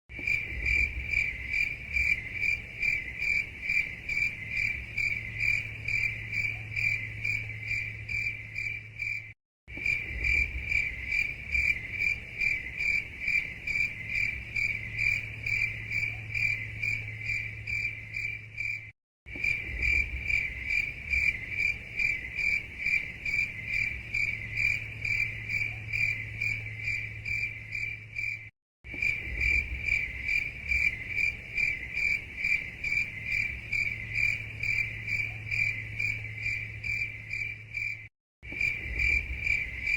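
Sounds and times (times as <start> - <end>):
crickets chirping: 0.1 - 39.9.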